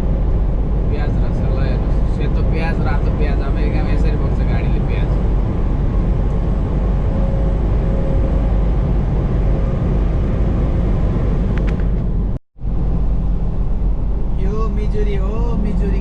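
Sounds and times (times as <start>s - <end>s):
truck cab drone and road rumble: 0.0s - 16.0s.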